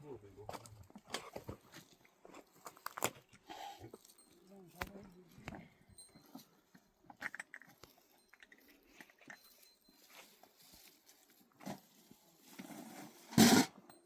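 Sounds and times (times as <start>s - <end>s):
small clicks and rustles: 0.5s - 12.7s.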